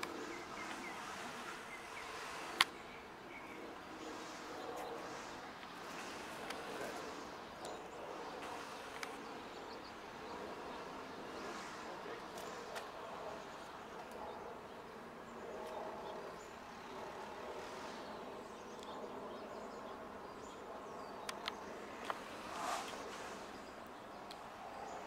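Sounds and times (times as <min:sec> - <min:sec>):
outdoor background hum: 0:00.0 - 0:25.0.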